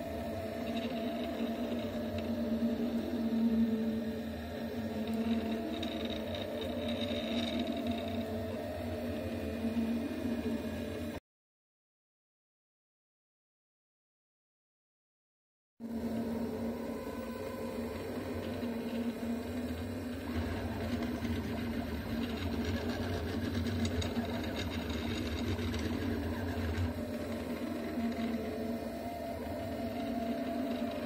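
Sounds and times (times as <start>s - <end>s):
steady hum: 0.0s - 11.2s, 15.8s - 31.0s
stepper motors whirring: 0.0s - 11.2s, 15.8s - 31.0s.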